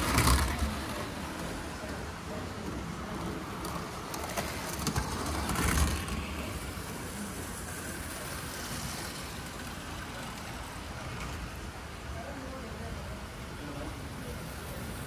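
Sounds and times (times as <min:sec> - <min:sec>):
model train rumbling on track: 0:00.0 - 0:15.0
room noise: 0:00.0 - 0:15.0.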